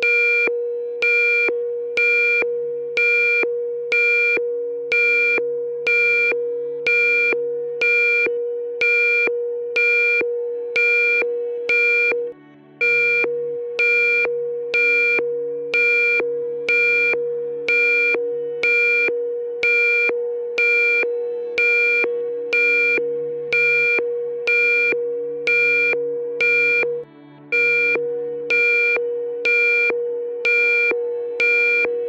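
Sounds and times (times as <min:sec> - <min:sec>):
continuous steady tone: 0:00.0 - 0:32.0.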